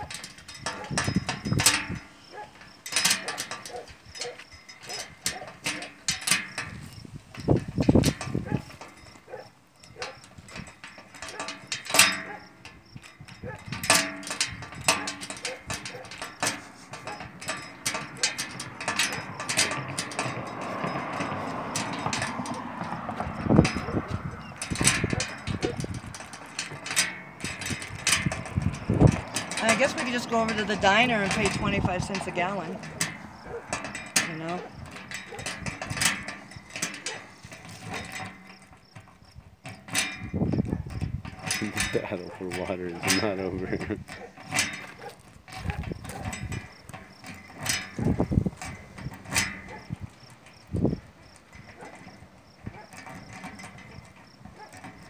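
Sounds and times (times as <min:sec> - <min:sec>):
key rattling in a lock: 0:00.0 - 0:55.0.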